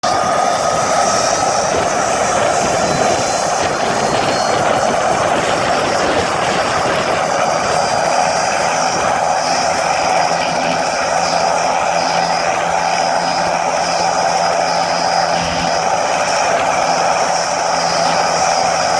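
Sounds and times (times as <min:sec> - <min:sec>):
helicopter turbine engine running: 0:00.0 - 0:18.9.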